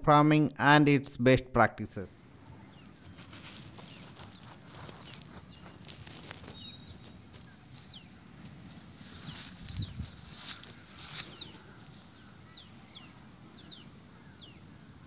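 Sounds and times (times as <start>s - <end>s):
soft rural background: 0.0s - 15.0s
small birds chirping: 2.0s - 15.0s.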